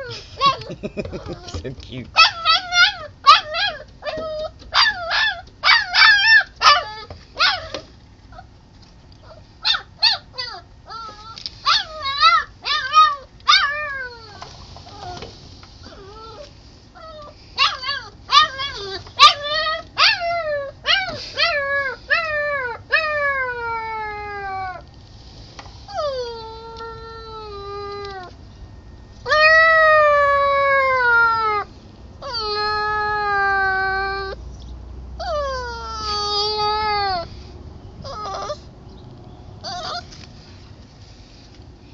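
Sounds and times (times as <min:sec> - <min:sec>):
puppy yipping and whining: 0:00.0 - 0:01.6, 0:02.2 - 0:08.5, 0:09.2 - 0:24.9, 0:25.8 - 0:28.4, 0:29.2 - 0:34.4, 0:35.2 - 0:37.4, 0:38.0 - 0:38.7, 0:39.6 - 0:40.2.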